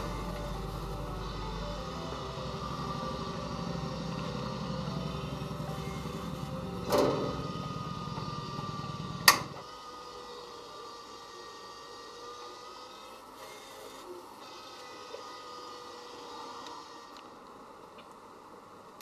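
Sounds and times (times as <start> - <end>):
motor humming: 0.0 - 17.7
faint high whine: 0.0 - 19.0.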